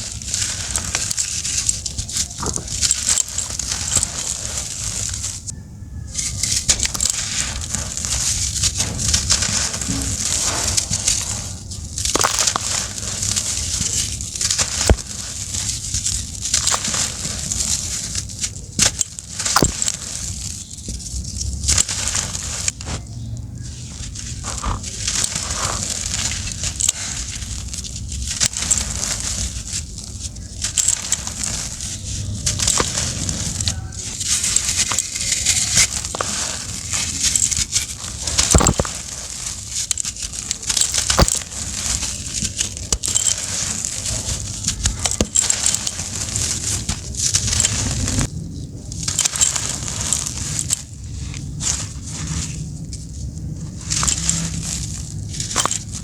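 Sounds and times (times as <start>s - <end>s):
brittle chunks crackling crushed: 0.0s - 5.5s, 6.2s - 56.0s.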